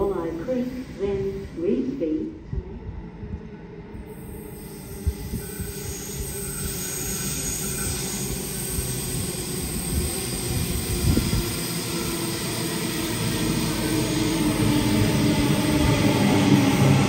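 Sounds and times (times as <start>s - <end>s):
train rumble in tunnel: 0.0s - 17.0s.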